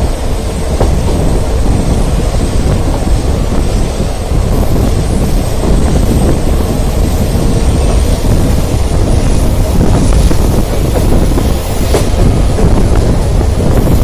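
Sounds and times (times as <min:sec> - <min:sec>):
train coaches rumbling: 0:00.0 - 0:14.0
wind buffeting microphone: 0:00.0 - 0:14.0.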